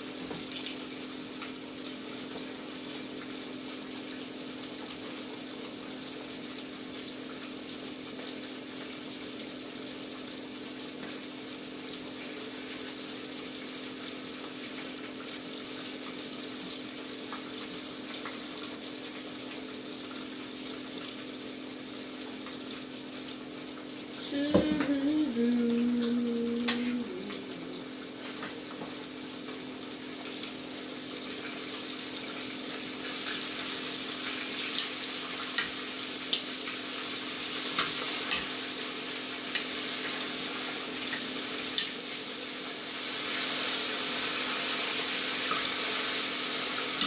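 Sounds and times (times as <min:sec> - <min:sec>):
food simmering in skillet: 0:00.0 - 0:47.0.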